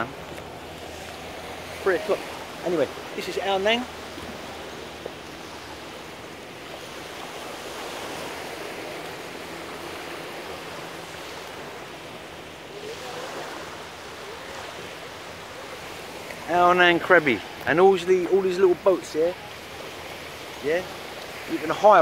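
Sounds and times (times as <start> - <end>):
small waves washing on beach: 0.0 - 22.0.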